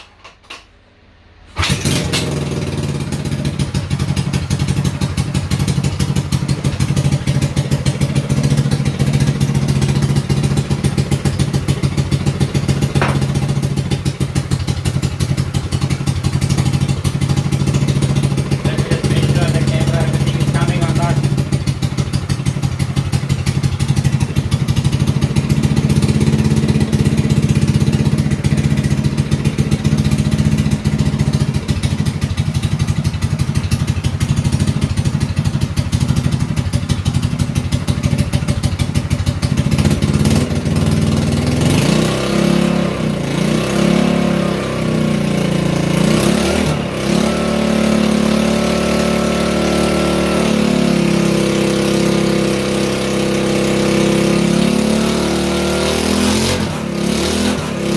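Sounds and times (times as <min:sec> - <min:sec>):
mini bike engine revving: 0:01.6 - 0:57.9.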